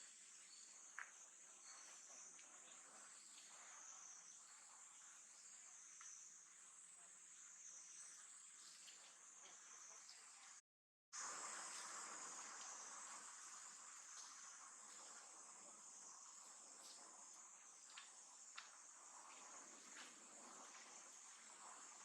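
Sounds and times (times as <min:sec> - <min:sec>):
insects chirring: 0:00.0 - 0:10.6, 0:11.2 - 0:22.0.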